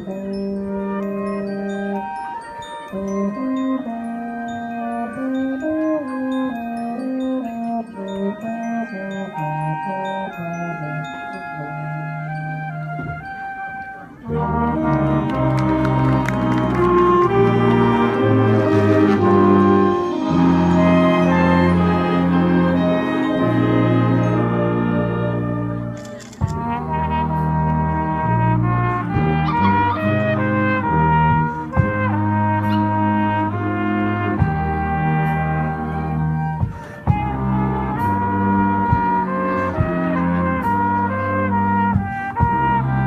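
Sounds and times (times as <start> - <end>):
brass music with trumpets and trombones: 0.0 - 43.0.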